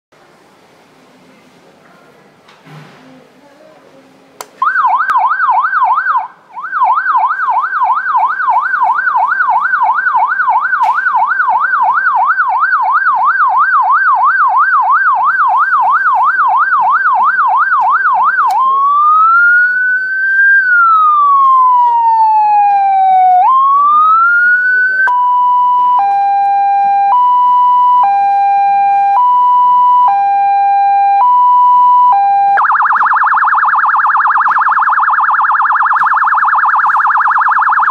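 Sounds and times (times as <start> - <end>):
electronic siren: 4.6 - 37.9.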